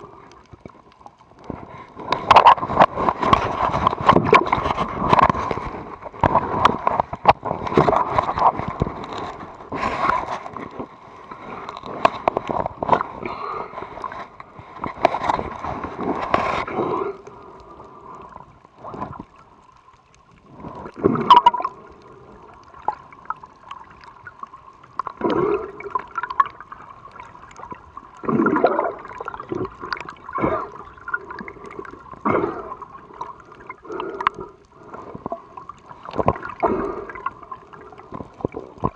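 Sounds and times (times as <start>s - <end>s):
sharp clicks underwater: 0.0s - 38.9s
underwater gurgling and sloshing: 0.0s - 38.9s.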